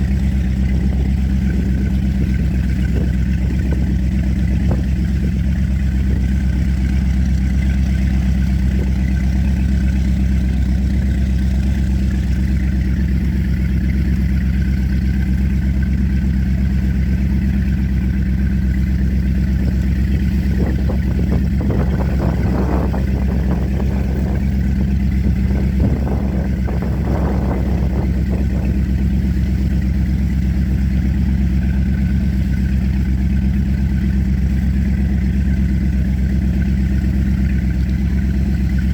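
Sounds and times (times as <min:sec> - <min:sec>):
boat engine running at low revs: 0:00.0 - 0:38.9.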